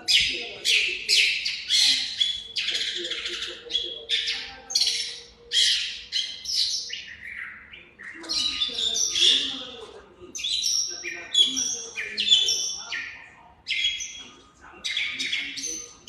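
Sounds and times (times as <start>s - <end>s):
small songbird singing: 0.0s - 16.0s.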